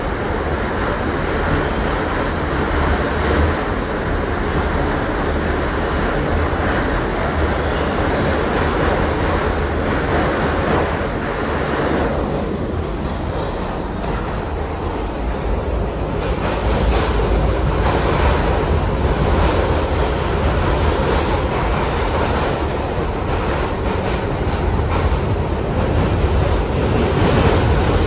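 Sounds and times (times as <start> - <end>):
subway car rumbling on track: 0.0 - 28.0.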